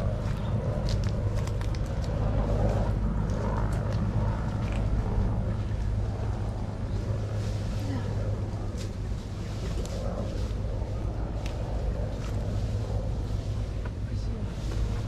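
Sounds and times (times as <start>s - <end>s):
distant voices: 0.0s - 15.0s
engine droning: 0.0s - 15.0s.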